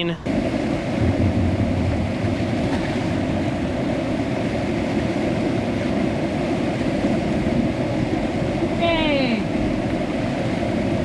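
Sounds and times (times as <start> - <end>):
river rapids rushing: 0.3 - 11.0.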